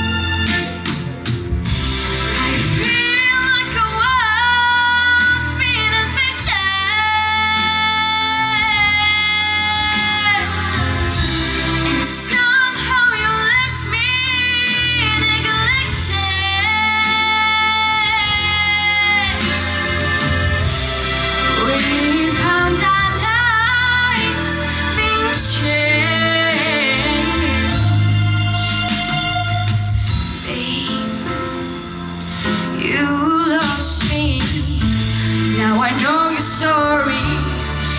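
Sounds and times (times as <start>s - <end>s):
pop backing track with bass: 0.0s - 37.9s
young woman singing: 2.3s - 19.8s, 21.6s - 28.0s, 30.4s - 37.9s.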